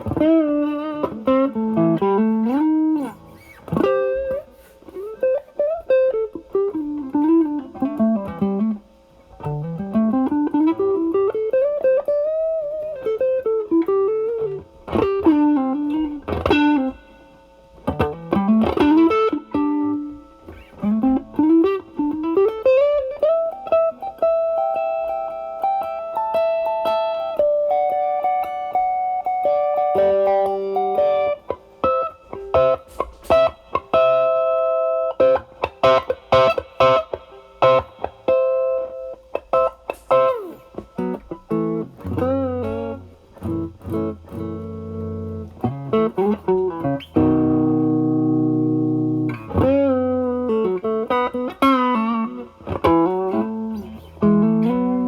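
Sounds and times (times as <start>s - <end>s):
overdriven electric guitar blues lead: 0.0s - 55.0s.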